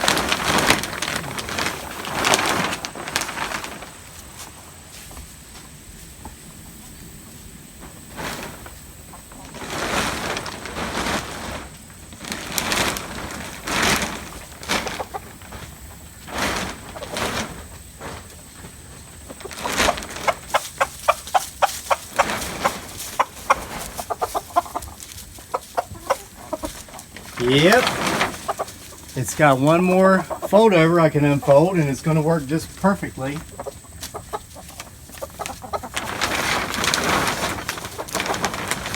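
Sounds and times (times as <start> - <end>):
plastic sheet rustling: 0.0 - 5.5, 7.8 - 38.9
chickens clucking: 0.0 - 38.9.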